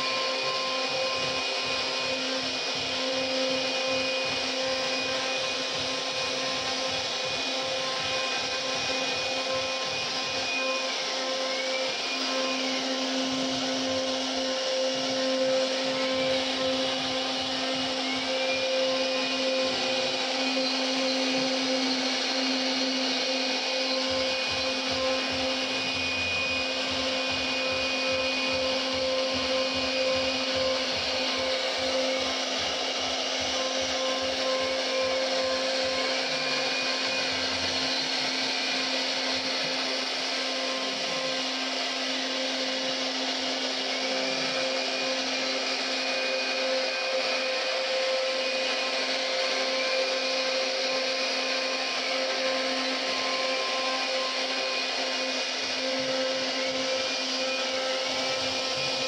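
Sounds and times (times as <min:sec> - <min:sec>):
router spindle motor whining: 0:00.0 - 0:59.0.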